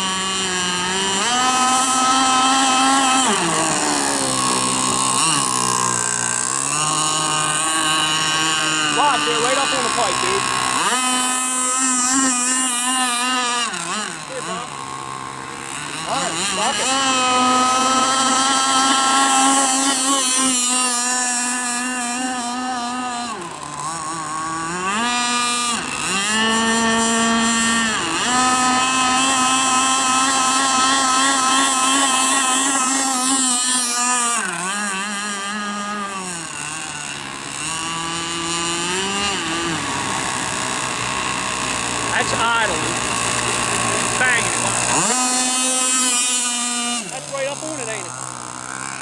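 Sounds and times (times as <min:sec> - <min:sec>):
model boat engine whining: 0:00.0 - 0:49.0.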